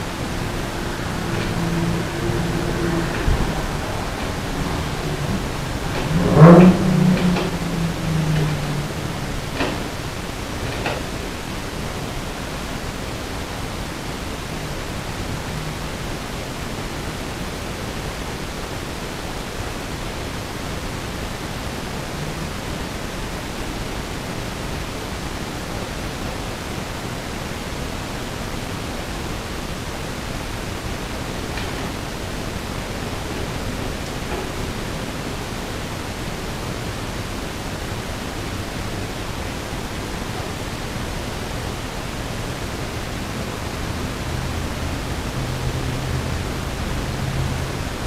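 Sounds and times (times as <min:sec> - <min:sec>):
recording hiss: 0:00.0 - 0:48.0.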